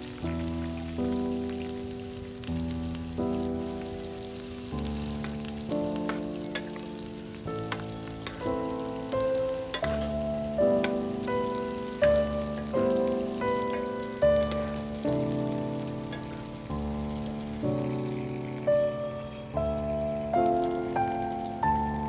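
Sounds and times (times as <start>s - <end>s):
food sizzling in a pan: 0.0s - 22.0s
background music: 3.1s - 22.0s.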